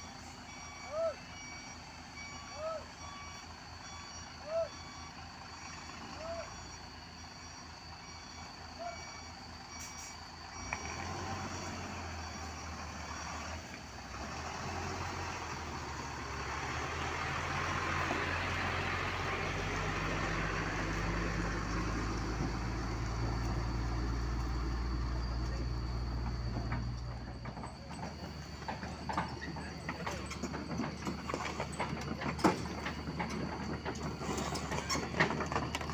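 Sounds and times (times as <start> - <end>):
reversing beeper: 0.0 - 13.6, 14.4 - 35.9
diesel truck engine running: 0.0 - 35.9.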